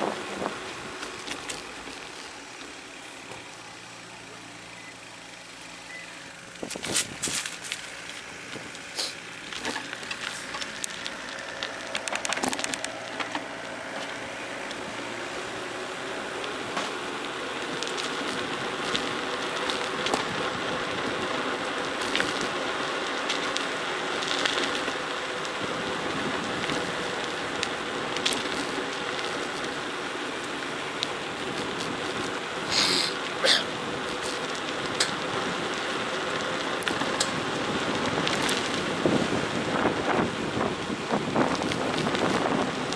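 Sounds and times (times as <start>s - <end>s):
bicycle tyres crunching gravel: 0.0s - 42.9s.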